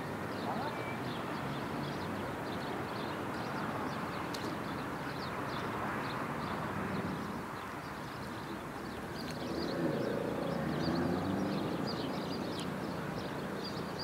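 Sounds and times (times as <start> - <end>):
distant traffic hum: 0.0 - 14.0
small birds chirping: 0.3 - 14.0.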